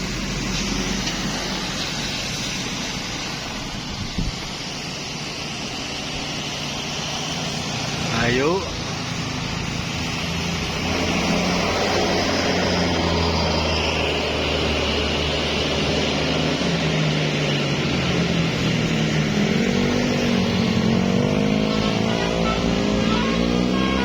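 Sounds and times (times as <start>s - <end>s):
vehicle engine accelerating: 0.0s - 24.0s.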